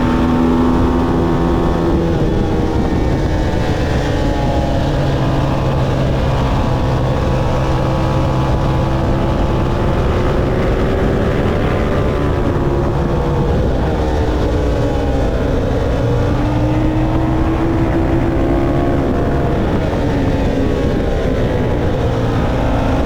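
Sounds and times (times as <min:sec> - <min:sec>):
motorcycle engine running hard: 0:00.0 - 0:23.0.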